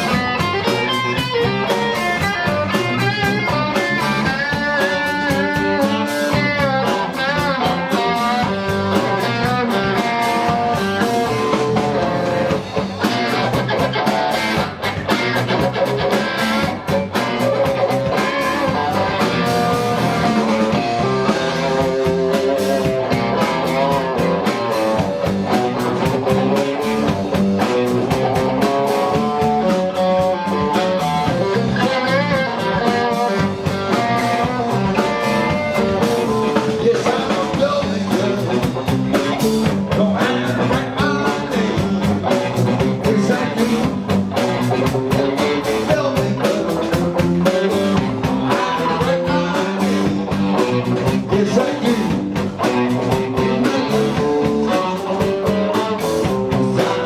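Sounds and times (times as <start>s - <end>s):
blues rock band playing: 0.0s - 57.0s.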